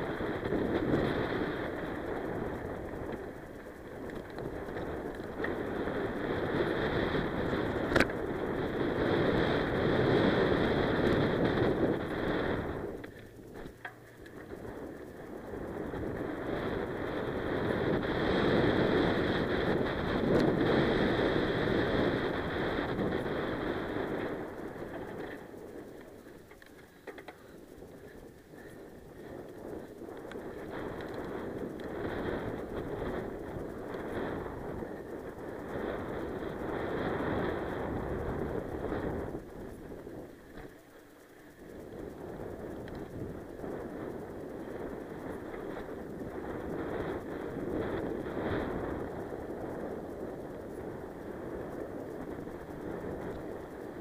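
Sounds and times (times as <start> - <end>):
wind on microphone: 0.0 - 13.6, 14.3 - 40.8, 41.6 - 54.0
bike tyres rolling on gravel: 0.0 - 54.0.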